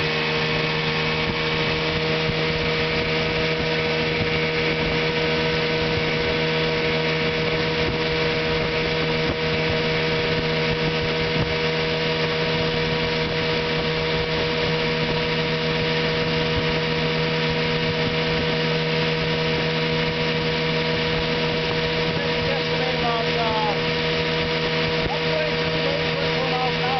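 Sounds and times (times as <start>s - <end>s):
outboard motor running: 0.0s - 26.9s.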